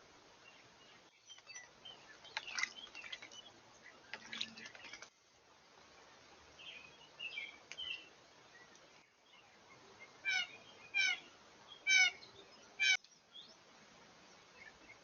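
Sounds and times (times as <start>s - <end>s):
small birds chirping: 0.4s - 5.2s, 6.0s - 15.0s.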